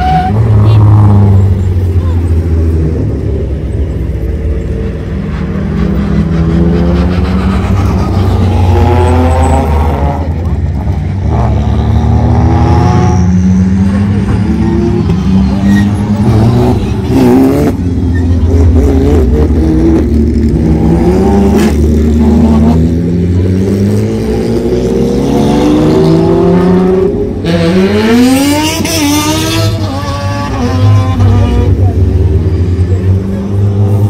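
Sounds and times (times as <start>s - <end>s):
race car engine revving: 4.6s - 34.0s.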